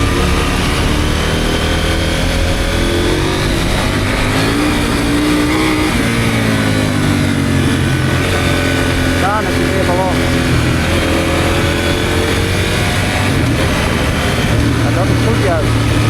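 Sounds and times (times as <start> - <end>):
motorcycle engine revving: 0.0 - 16.0
wind rumble on microphone: 0.0 - 16.0.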